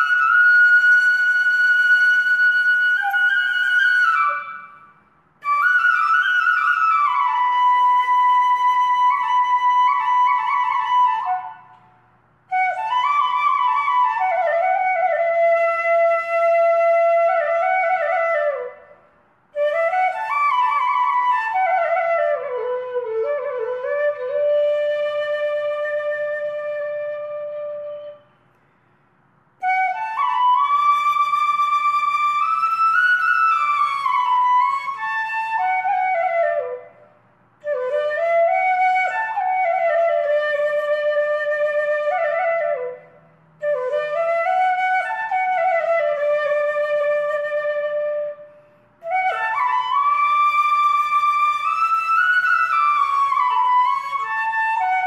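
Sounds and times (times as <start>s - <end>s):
solo flute slow melody: 0.0s - 28.5s, 29.6s - 55.0s.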